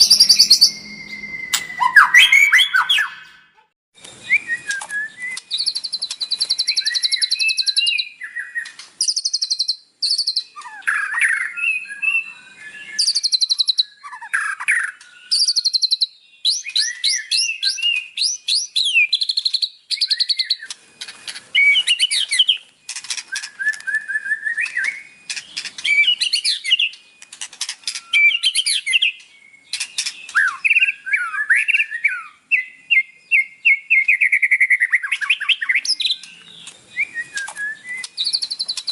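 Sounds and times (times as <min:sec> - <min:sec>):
songbird singing varied song: 0:00.0 - 0:38.9.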